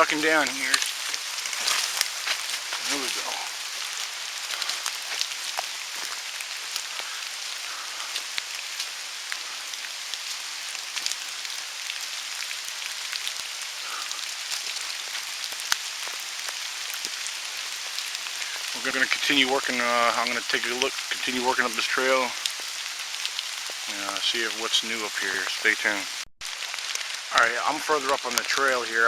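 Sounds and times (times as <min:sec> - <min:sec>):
raindrops ticking close by: 0:00.0 - 0:29.0
steady rain hiss: 0:00.0 - 0:29.0.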